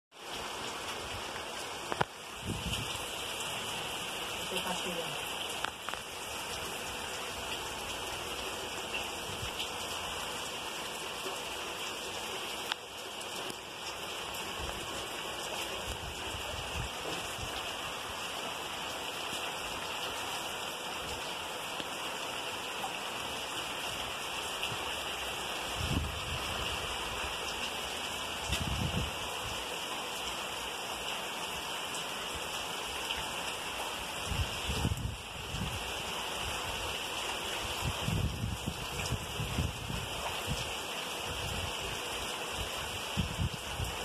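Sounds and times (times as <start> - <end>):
heavy rain on vegetation: 0.1 - 44.0.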